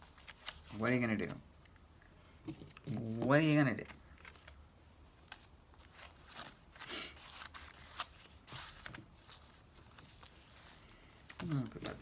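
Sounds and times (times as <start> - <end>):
paper handling: 0.0 - 1.4, 2.5 - 4.6, 5.2 - 12.0.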